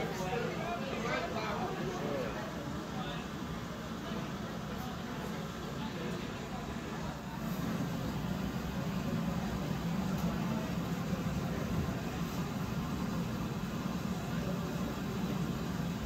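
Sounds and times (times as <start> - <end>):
furnace rumble: 0.0 - 16.0.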